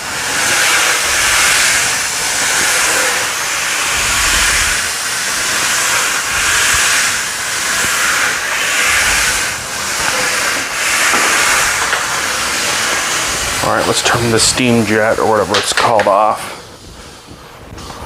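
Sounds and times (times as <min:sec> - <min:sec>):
steam jet hissing: 0:00.0 - 0:18.0.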